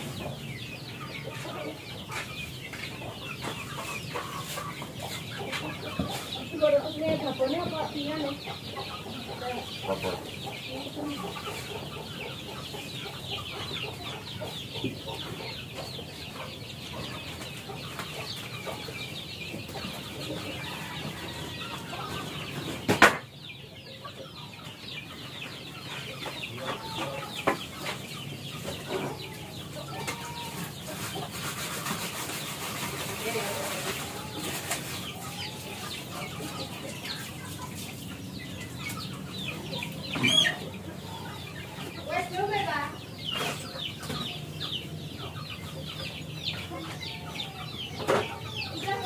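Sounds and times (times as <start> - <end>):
chickens clucking and chirping: 0.0 - 49.0.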